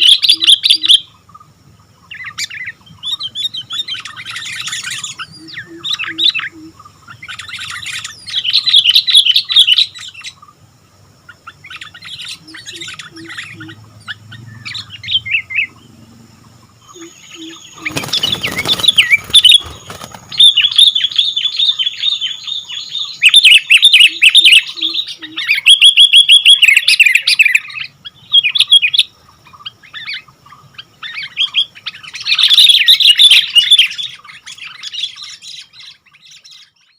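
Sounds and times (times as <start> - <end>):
bird chattering song: 0.0 - 36.9.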